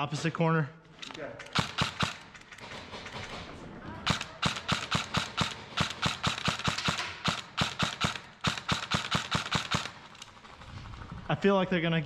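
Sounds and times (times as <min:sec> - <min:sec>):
airsoft rifle shots: 0:01.4 - 0:11.7.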